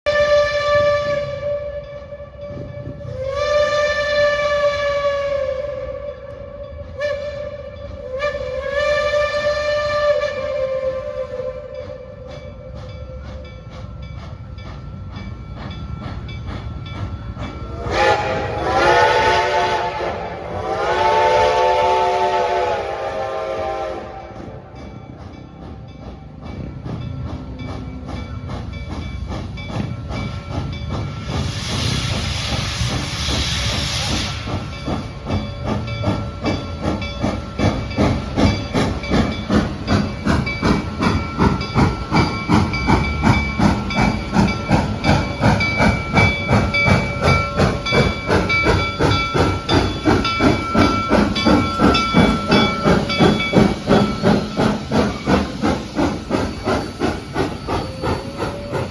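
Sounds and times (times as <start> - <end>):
steam locomotive chuffing: 0.1 - 58.9
steam hissing: 2.5 - 58.9.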